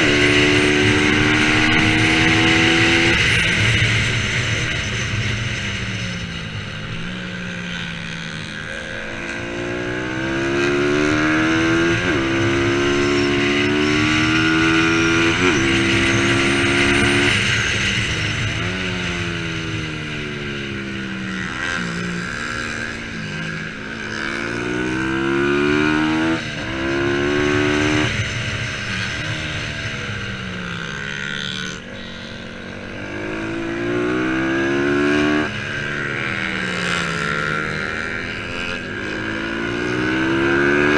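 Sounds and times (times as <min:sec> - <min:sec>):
racing motorcycle engines revving: 0:00.0 - 0:40.9.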